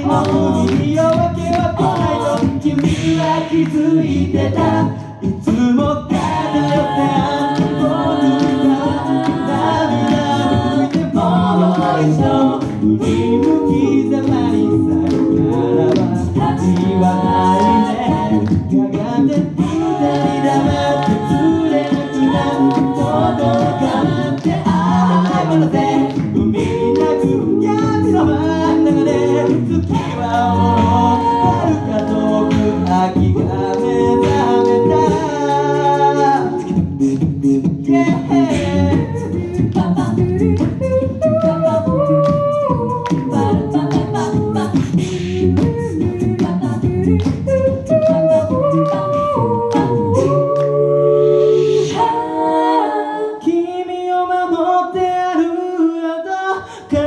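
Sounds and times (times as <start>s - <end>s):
group singing a cappella in harmony: 0.0s - 57.0s.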